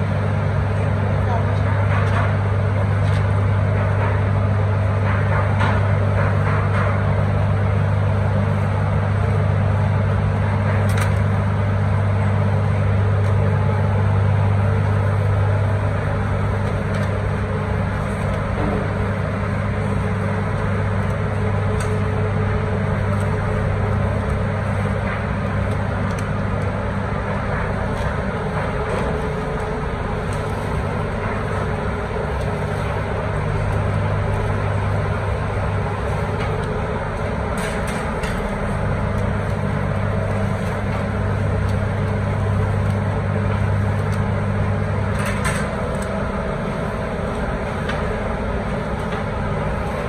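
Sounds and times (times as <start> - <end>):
low mechanical motor hum: 0.0 - 50.0.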